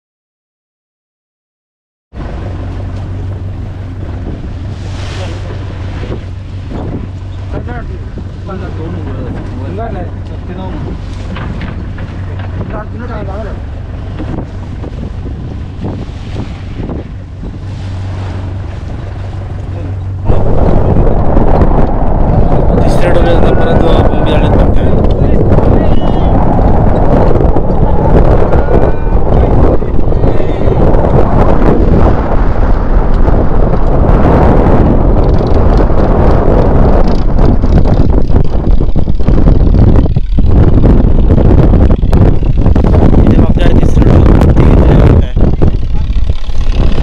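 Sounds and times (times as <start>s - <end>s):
boat engine humming: 2.1s - 47.0s
wind buffeting microphone: 2.1s - 47.0s.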